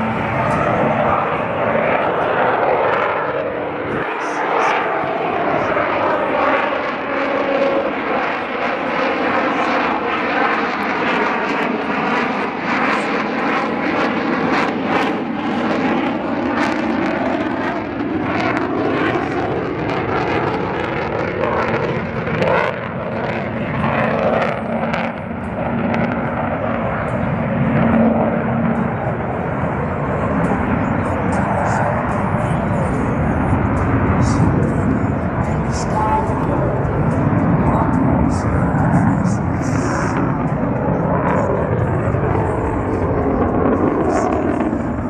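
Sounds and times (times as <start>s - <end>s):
fighter jet engine noise: 0.0s - 45.0s.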